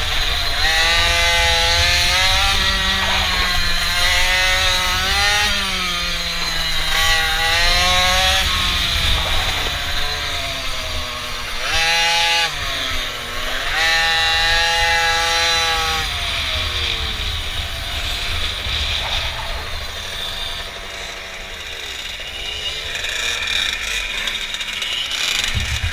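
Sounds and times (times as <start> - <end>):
wind rumbling on microphone: 0.0 - 21.4, 25.4 - 25.9
mini bike engine revving: 0.0 - 25.9.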